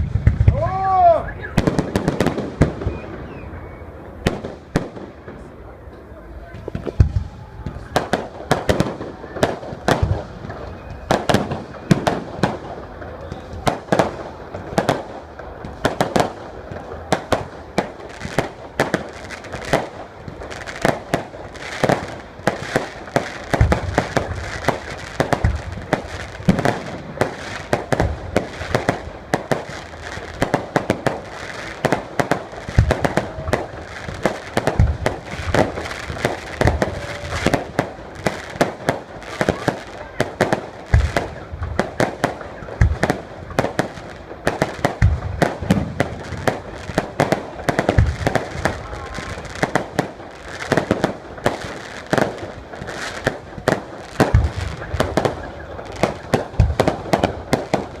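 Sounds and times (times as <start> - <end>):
deep fireworks booms: 0.0 - 58.0
fireworks bangs and crackles: 0.0 - 58.0.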